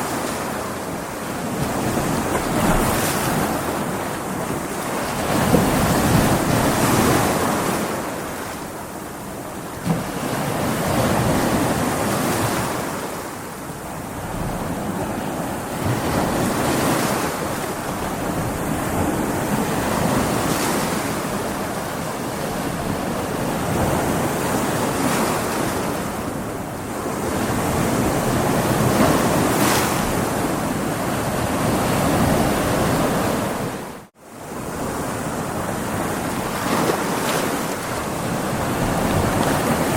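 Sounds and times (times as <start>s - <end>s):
heavy waves breaking: 0.0s - 39.9s
wind: 0.0s - 39.9s.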